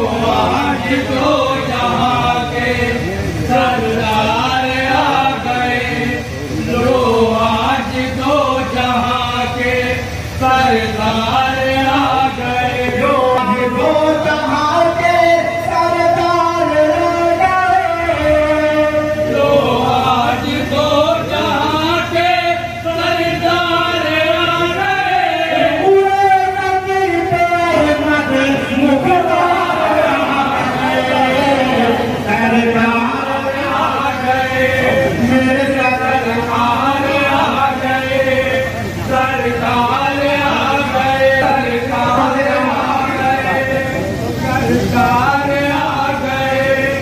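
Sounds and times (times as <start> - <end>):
voices chanting devotional song: 0.0 - 47.0.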